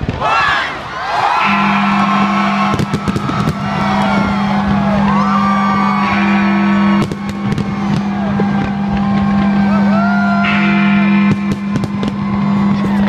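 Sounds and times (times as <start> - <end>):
crowd cheering: 0.0 - 13.0
sustained low music note: 1.4 - 13.0
fireworks cracking: 1.5 - 13.0.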